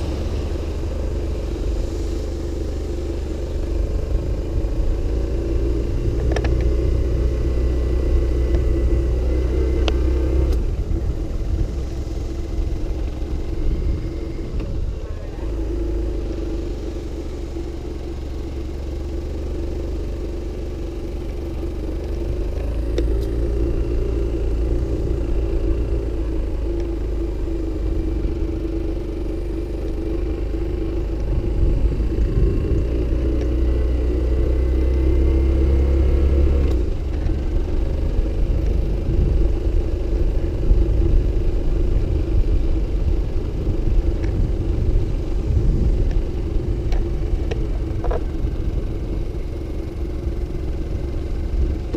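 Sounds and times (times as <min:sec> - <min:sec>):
low rumble on microphone: 0:00.0 - 0:20.1, 0:20.8 - 0:51.9
motorcycle engine running: 0:00.0 - 0:51.9.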